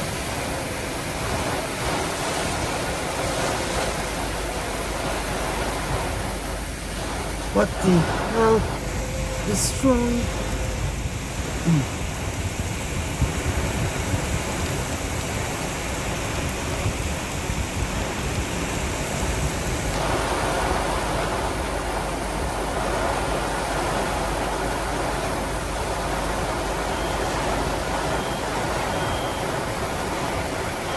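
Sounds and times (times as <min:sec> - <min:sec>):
heavy rain on car roof: 0:00.0 - 0:30.9.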